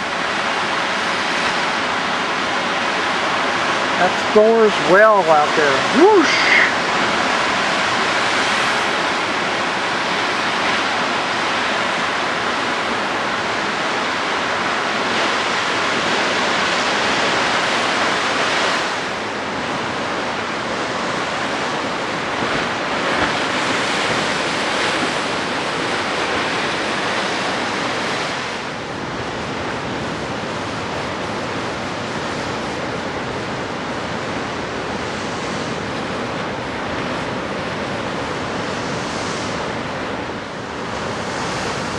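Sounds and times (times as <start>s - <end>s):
surf washing against rocks: 0.0s - 41.9s
wind on microphone: 5.6s - 41.9s.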